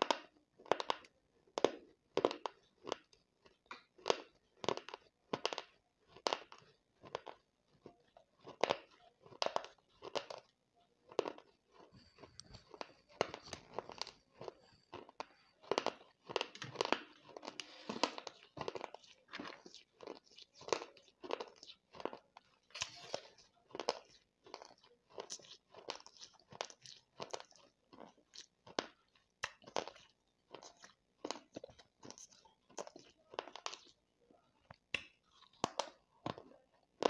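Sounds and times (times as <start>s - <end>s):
quiet grinding chewing: 0.0s - 37.0s.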